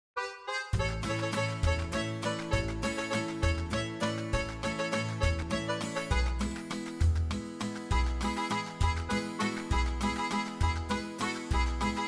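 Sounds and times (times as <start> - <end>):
upbeat band music: 0.2 - 12.0.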